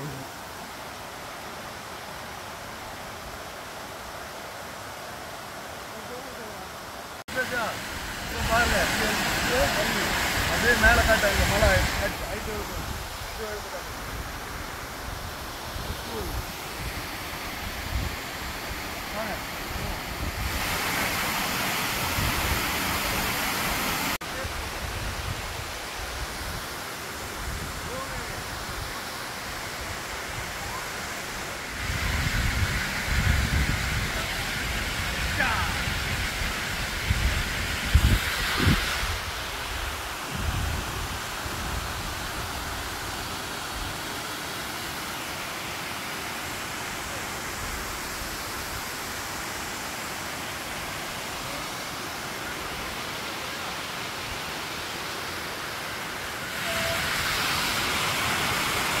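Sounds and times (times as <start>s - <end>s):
river rushing over cascades: 0.0s - 59.0s.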